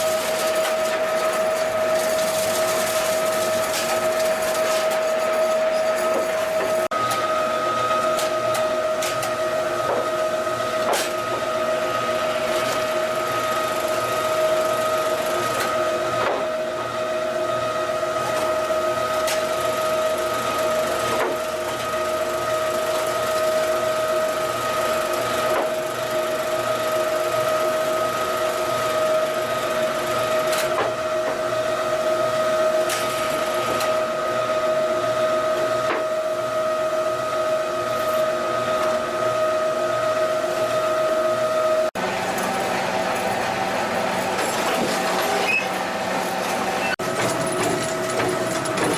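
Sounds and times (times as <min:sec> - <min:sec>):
block making machine hum: 0:00.0 - 0:48.9.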